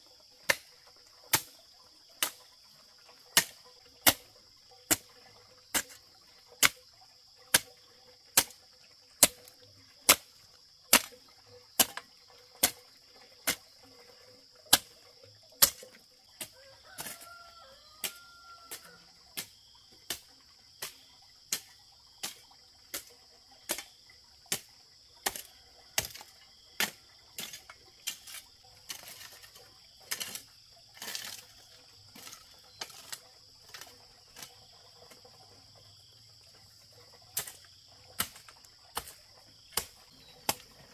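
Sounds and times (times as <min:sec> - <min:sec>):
high insect drone: 0:03.7 - 0:40.9.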